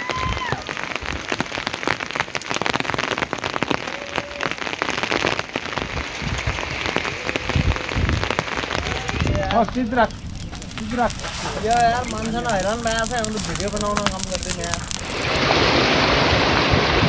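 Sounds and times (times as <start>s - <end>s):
close raindrop hits: 0.0s - 17.0s
steady rain hiss: 0.0s - 17.0s.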